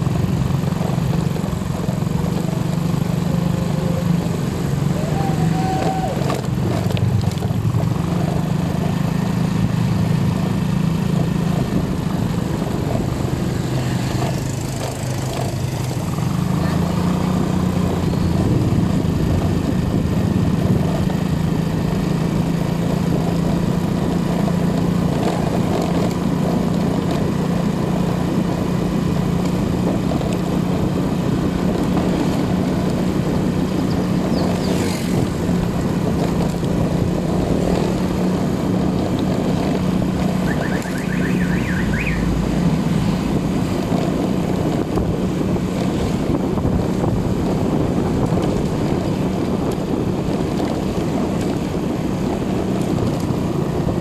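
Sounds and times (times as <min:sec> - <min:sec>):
road and wind noise: 0:00.0 - 0:54.0
vehicle engine humming: 0:00.0 - 0:54.0.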